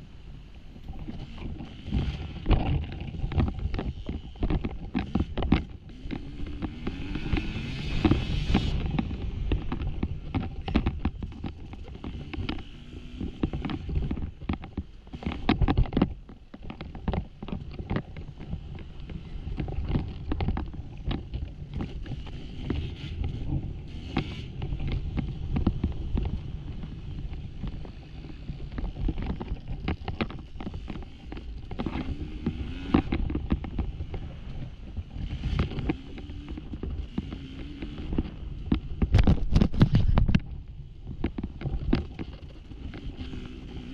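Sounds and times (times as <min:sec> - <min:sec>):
dirt bike engine: 0:00.0 - 0:43.9
rocks knocking and clattering: 0:00.8 - 0:43.9.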